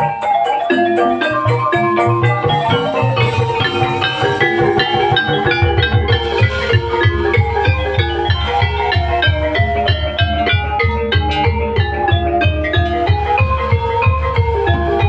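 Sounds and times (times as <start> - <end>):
metallophones playing melody: 0.0 - 15.0
low drum beat: 1.3 - 15.0.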